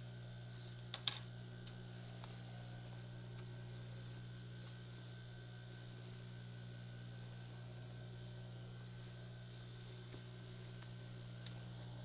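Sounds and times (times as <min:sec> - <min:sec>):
faint high whine: 0:00.0 - 0:12.0
low electrical hum: 0:00.0 - 0:12.0.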